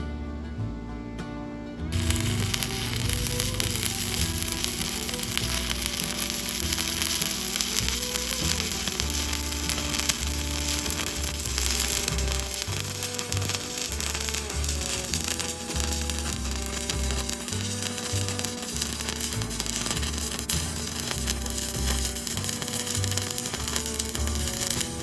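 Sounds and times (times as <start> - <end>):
background music with bass: 0.0 - 25.0
welding arc crackling: 1.9 - 25.0.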